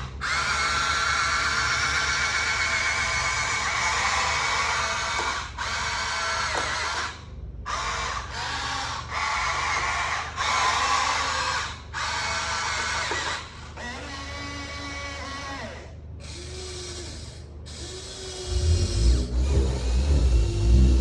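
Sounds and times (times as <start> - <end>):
toy excavator motors whining: 0.0 - 21.0.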